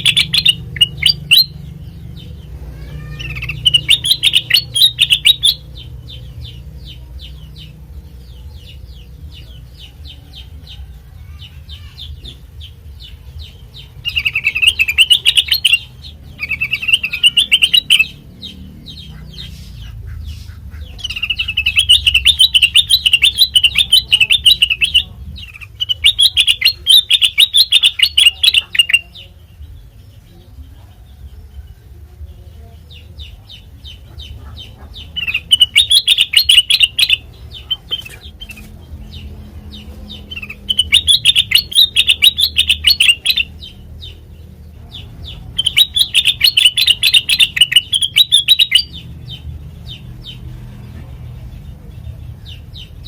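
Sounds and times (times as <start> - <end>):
bulbul chattering song: 0.0 - 53.0.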